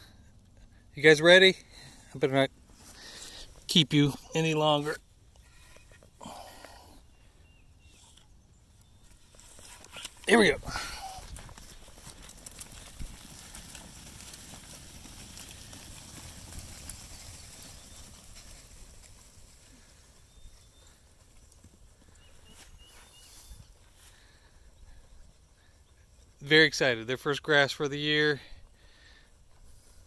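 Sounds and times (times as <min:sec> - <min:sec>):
sheep hooves pattering on ground: 0:00.1 - 0:30.0.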